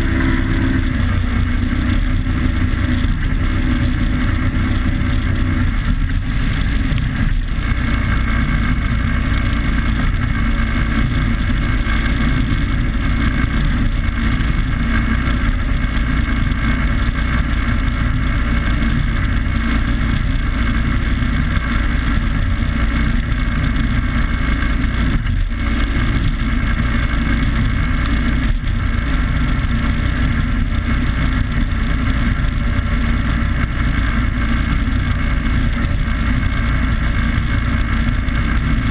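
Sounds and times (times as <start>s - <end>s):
boat engine drone: 0.0s - 38.9s
wind on microphone: 0.0s - 38.9s.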